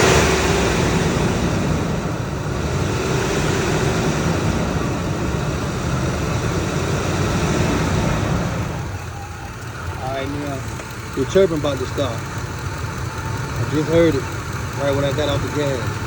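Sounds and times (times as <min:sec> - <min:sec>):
engine running at raised revs: 0:00.0 - 0:16.0.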